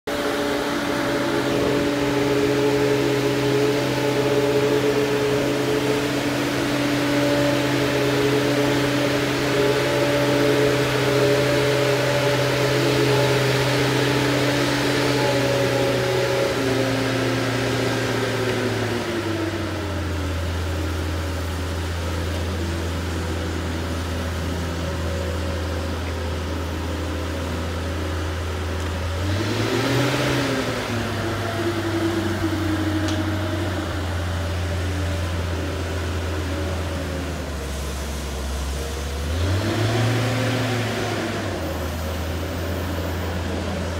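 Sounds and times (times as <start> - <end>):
travel lift engine running: 0.1 - 43.9.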